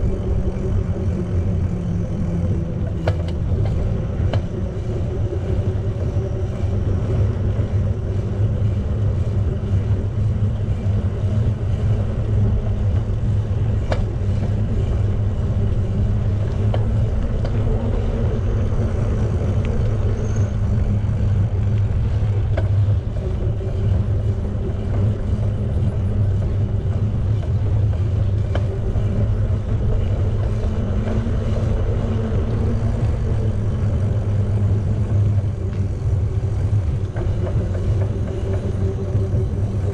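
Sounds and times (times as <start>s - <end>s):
bicycle tyres rolling on pavement: 0.0s - 39.9s
wind buffeting microphone: 0.0s - 39.9s.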